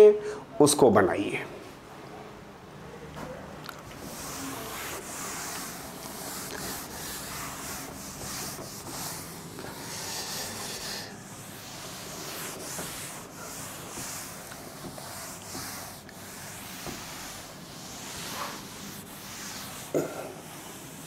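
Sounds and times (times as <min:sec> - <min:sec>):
duster rubbing chalkboard: 0:04.0 - 0:21.0.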